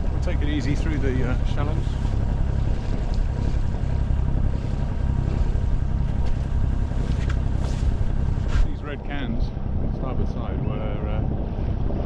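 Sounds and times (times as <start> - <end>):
diesel boat engine running: 0.0 - 12.0.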